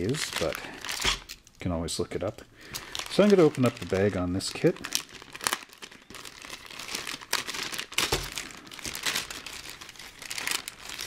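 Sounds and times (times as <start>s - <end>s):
plastic bag crinkling: 0.0s - 1.6s, 2.6s - 11.0s.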